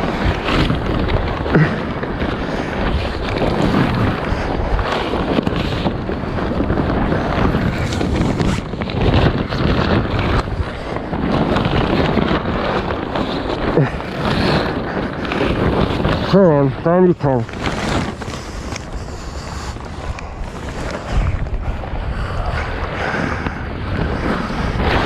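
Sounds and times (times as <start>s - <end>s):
knocks and flutters: 0.0s - 25.0s
wind buffeting microphone: 0.0s - 25.0s.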